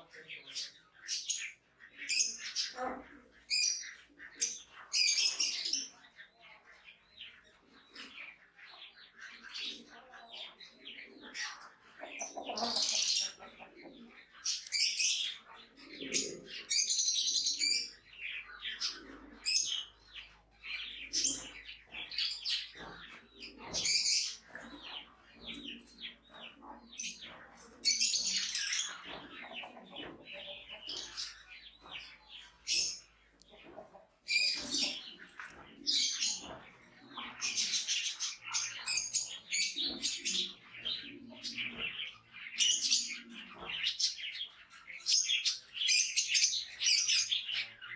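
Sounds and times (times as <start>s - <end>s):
birds chirping and calling: 0.0s - 47.9s.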